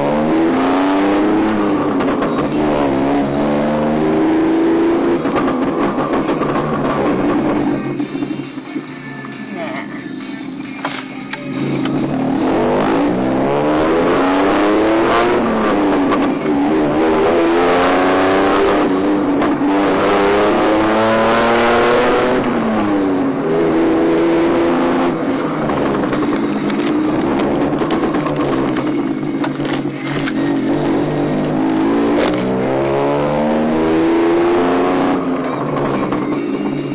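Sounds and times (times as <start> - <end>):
small car engine revving: 0.0 - 7.8, 11.7 - 36.6.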